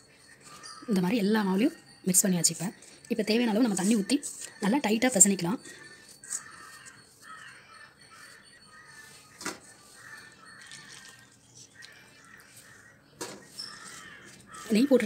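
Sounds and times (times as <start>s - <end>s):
birds calling: 0.0s - 1.2s, 2.6s - 15.0s.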